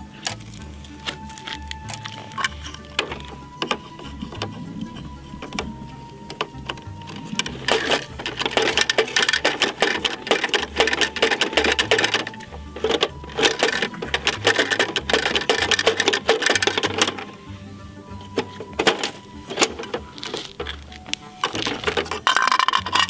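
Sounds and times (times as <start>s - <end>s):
rapid plastic clicking: 0.0s - 17.5s, 18.2s - 23.0s.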